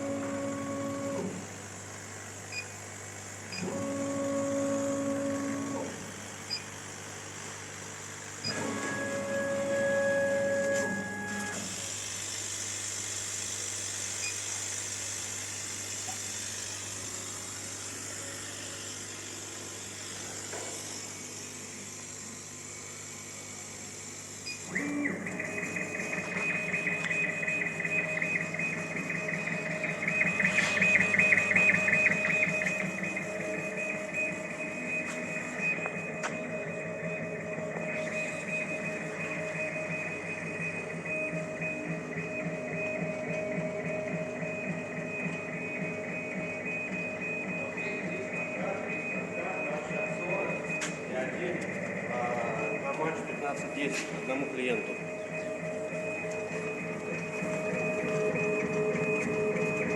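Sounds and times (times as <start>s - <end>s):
stepper motors whining: 8.4s - 59.9s.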